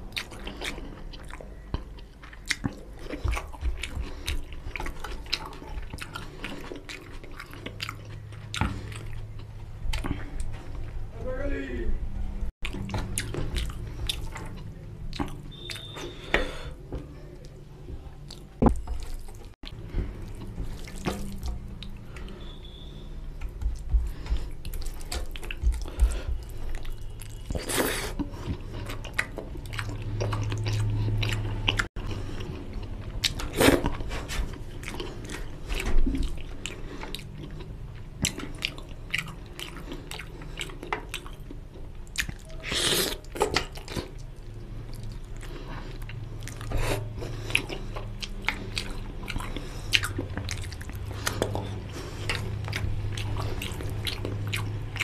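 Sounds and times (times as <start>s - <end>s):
man chewing food: 0.0s - 11.1s, 12.4s - 55.0s.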